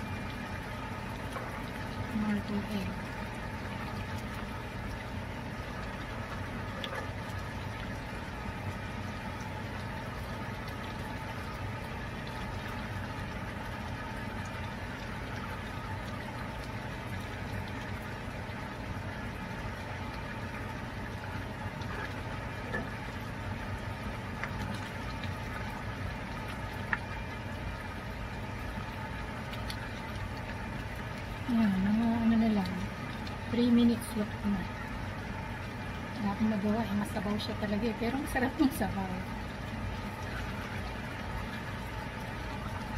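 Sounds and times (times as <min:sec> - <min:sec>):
sauce bubbling in pan: 0:00.0 - 0:42.9.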